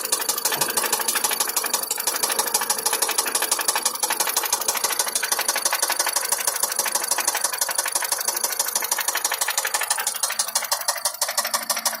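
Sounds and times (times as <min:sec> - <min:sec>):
knocking vehicle engine running: 0:00.0 - 0:12.0.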